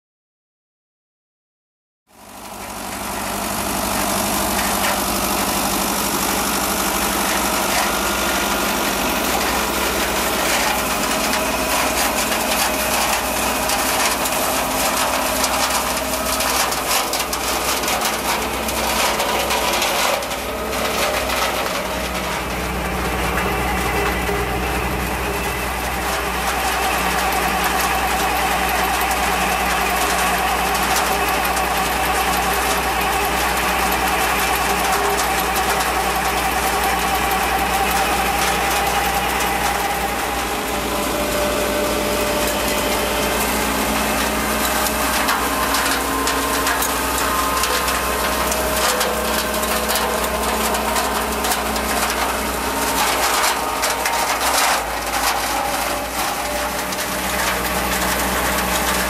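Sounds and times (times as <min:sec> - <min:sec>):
harvester mechanical hum: 0:02.2 - 0:59.0
rattling and clicking: 0:03.8 - 0:59.0.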